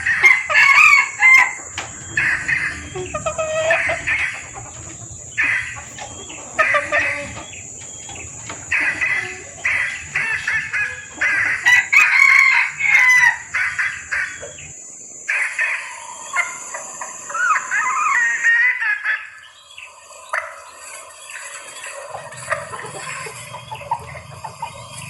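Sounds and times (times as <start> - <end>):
hen clucking and cackling: 0.0 - 25.0.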